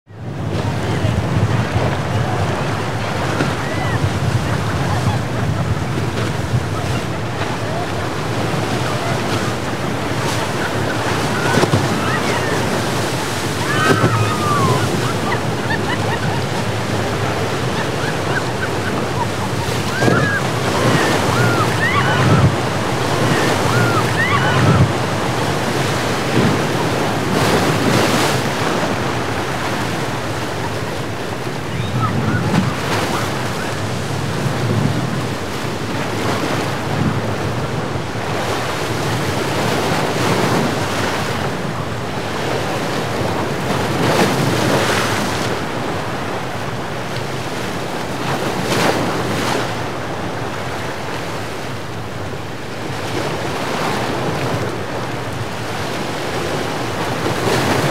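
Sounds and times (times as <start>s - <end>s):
waves crashing: 0.1s - 57.9s
wind buffeting microphone: 0.1s - 57.9s
surf breaking and hissing: 0.2s - 57.9s.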